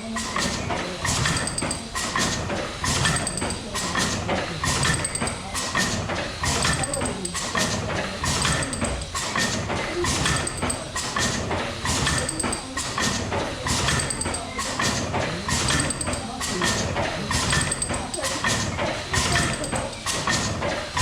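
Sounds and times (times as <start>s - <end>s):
steam engine clanking: 0.0s - 21.0s.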